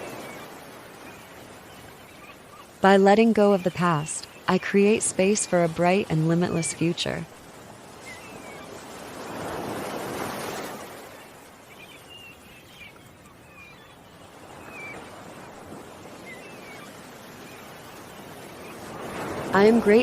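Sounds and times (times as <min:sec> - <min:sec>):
birds chirping: 0:00.0 - 0:20.0
ocean waves washing on shore: 0:00.0 - 0:20.0.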